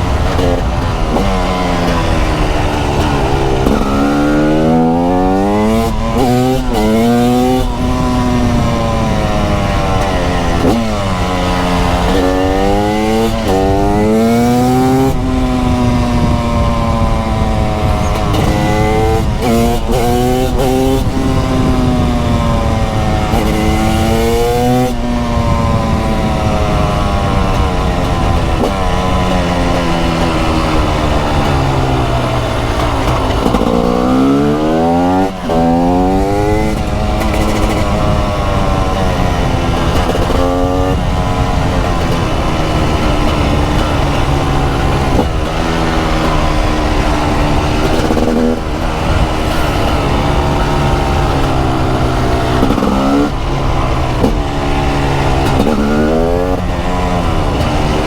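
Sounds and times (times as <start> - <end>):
two-stroke motorcycle engine revving: 0.0 - 58.0
wind on microphone: 0.0 - 58.0.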